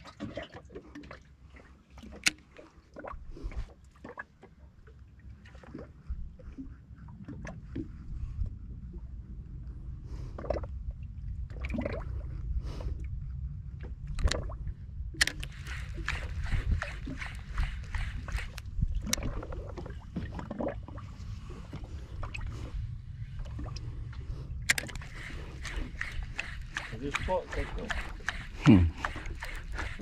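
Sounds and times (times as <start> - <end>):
water slapping against hull: 0.0 - 8.6, 10.3 - 13.0, 13.7 - 30.0
steady low rumble: 5.9 - 30.0.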